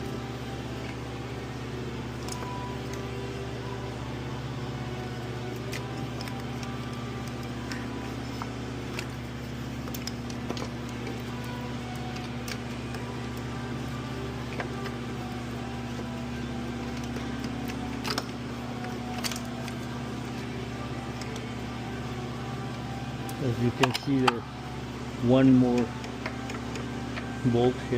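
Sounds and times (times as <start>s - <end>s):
steady mechanical hum: 0.0s - 27.9s.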